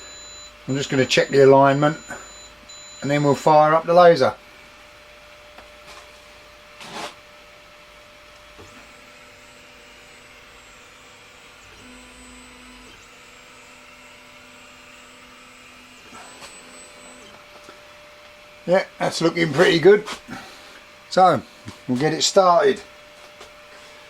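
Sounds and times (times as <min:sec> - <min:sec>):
laser engraver humming: 0:00.0 - 0:24.0
motors whining faintly: 0:00.0 - 0:24.0.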